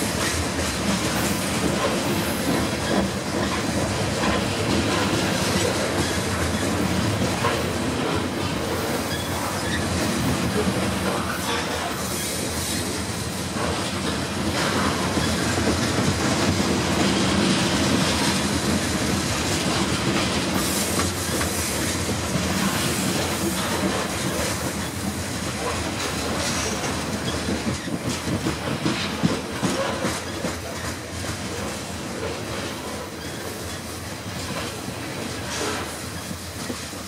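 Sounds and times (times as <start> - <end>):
clickety-clack over rail joints: 0.0 - 37.0
train wheels rumbling on rail: 0.0 - 37.0.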